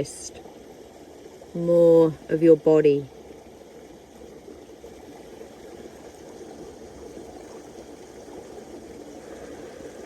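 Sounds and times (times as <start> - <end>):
flowing stream: 0.0 - 10.0.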